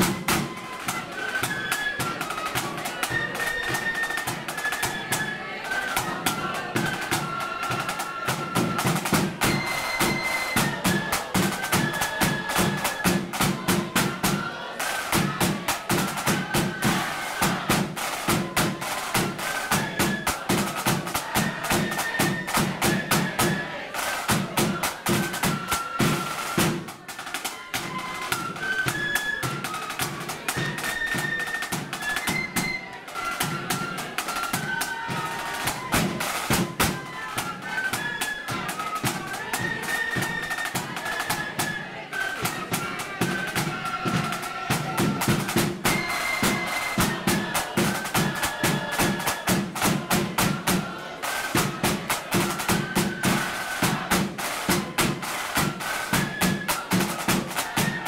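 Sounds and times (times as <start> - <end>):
flutes playing melody: 0.0 - 58.0
snare drums: 0.0 - 58.0.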